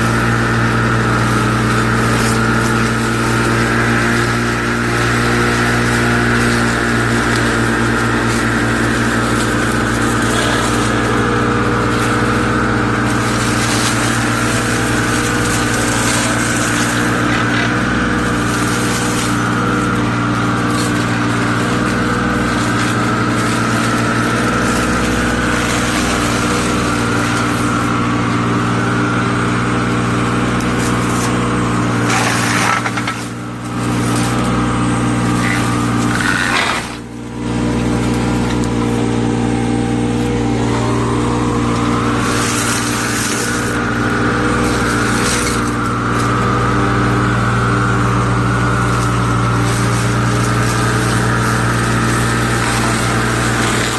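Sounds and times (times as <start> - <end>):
excavator engine running: 0.0 - 53.9
high hydraulic whine: 0.0 - 53.9.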